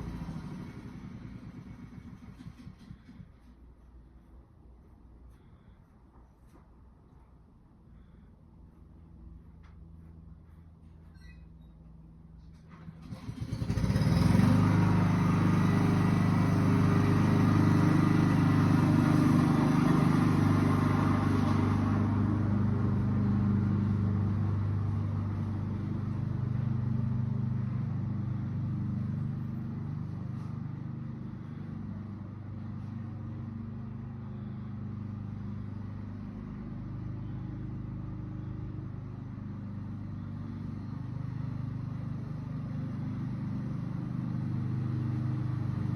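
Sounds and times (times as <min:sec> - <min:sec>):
lawnmower engine running: 0:00.0 - 0:03.6, 0:12.4 - 0:45.9.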